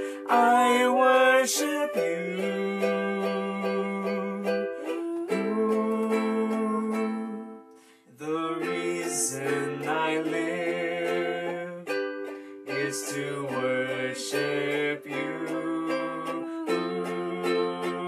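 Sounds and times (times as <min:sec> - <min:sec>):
ukulele strumming: 0:00.0 - 0:18.0.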